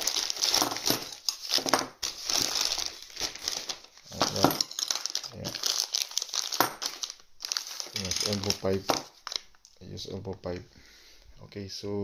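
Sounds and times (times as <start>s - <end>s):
plastic bags crinkling: 0.0s - 10.6s.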